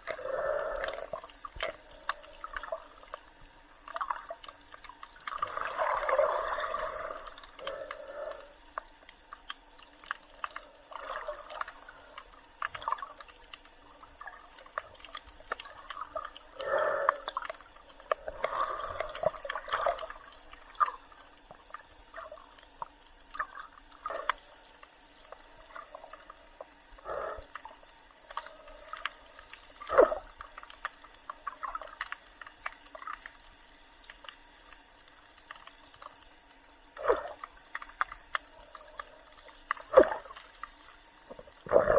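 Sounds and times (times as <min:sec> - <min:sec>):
muffled underwater gurgling: 0:00.0 - 0:41.9
underwater clicks: 0:00.0 - 0:41.9.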